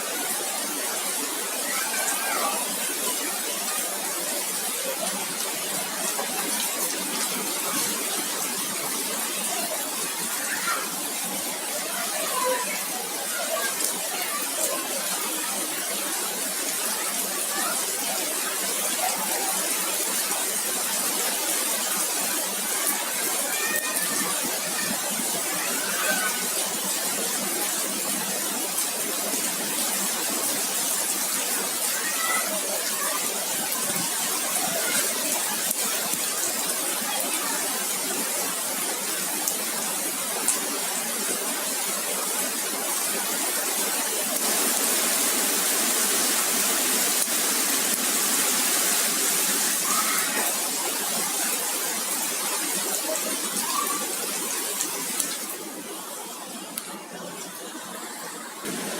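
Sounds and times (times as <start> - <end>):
heavy rain hissing: 0.0 - 58.9.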